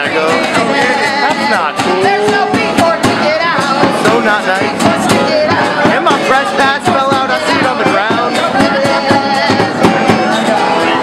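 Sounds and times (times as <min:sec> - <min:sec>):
man singing in shouting voice: 0:00.0 - 0:02.8, 0:03.6 - 0:11.0
accordion: 0:00.0 - 0:11.0
strummed guitar: 0:00.0 - 0:11.0.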